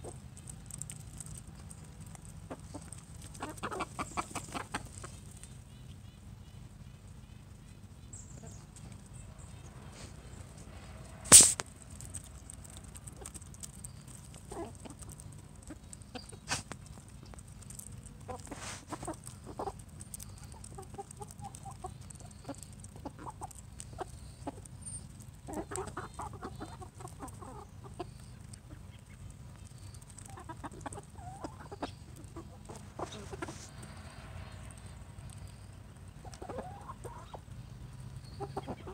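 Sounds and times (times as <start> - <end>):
hens clucking: 0.0 - 6.4, 7.0 - 38.9.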